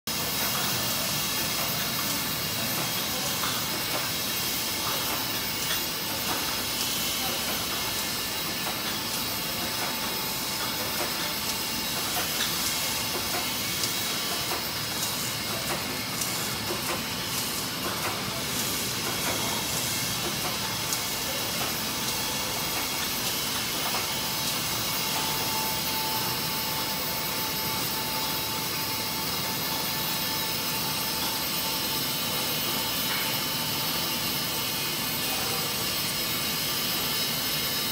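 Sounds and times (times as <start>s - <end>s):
machinery hiss and rumble: 0.1s - 37.9s.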